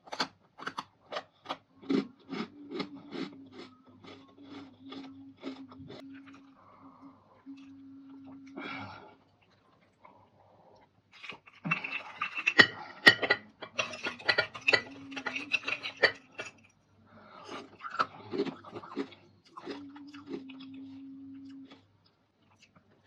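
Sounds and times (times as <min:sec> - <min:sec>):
crunching and chewing dried fruit: 0:00.0 - 0:06.7, 0:11.1 - 0:23.0
faint steady hum: 0:00.0 - 0:23.0.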